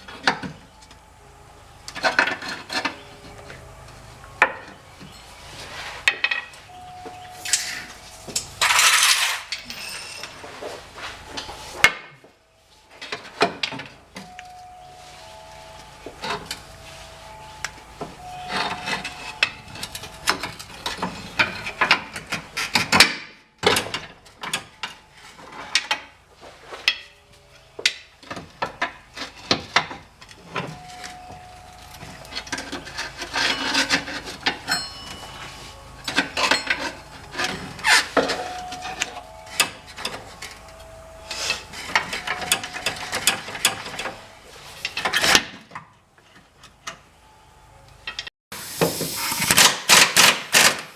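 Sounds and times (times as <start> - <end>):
metal tools clanking: 1.9 - 5.4, 6.0 - 10.7, 13.0 - 26.2, 26.8 - 47.0.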